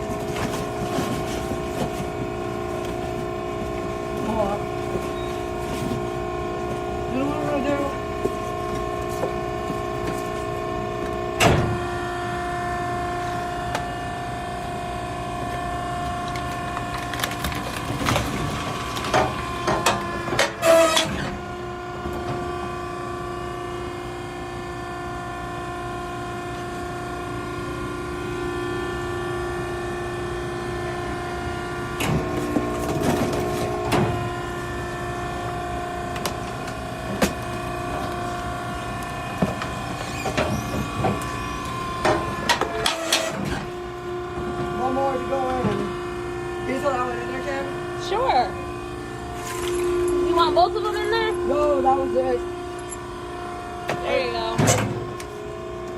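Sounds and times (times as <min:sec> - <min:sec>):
hydraulic unit humming: 0:00.0 - 0:55.9.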